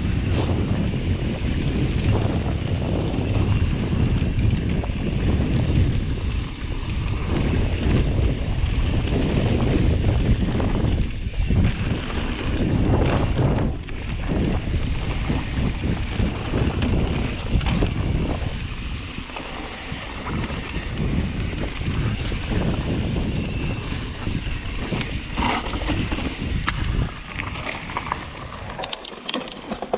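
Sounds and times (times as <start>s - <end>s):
bike rattling over bumps: 0.0s - 29.9s
bike tyres on dirt trail: 0.0s - 29.9s
wind on microphone: 0.0s - 29.9s.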